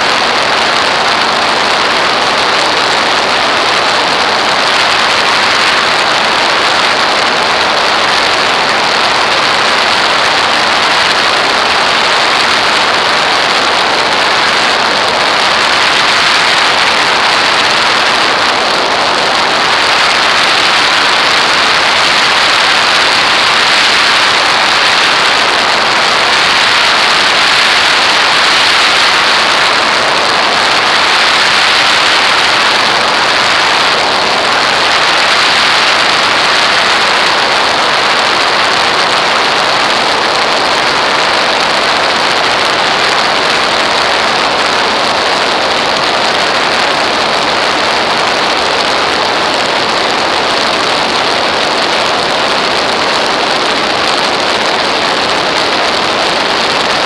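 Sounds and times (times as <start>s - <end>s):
wind rushing over camera: 0.0s - 57.0s.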